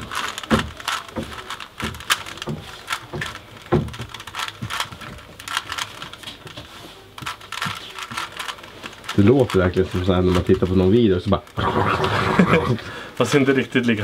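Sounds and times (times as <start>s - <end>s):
puzzle cube plastic clicks: 0.0s - 11.9s.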